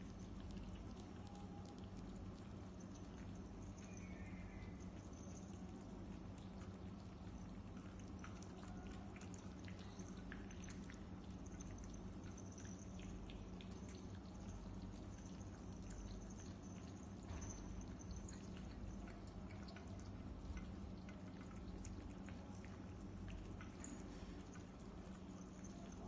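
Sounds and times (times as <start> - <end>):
cats eating and licking: 0.0 - 26.0
steady low hum: 0.0 - 26.0.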